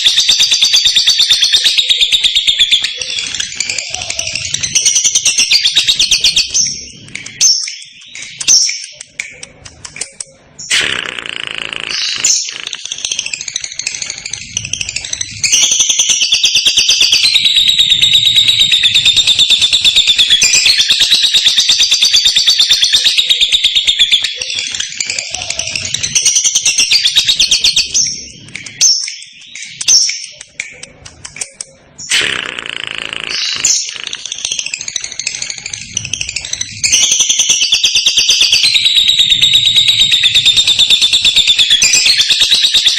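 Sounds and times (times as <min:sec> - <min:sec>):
bird chirps: 0:00.0 - 0:42.9
lovebird chattering trill: 0:00.0 - 0:42.9.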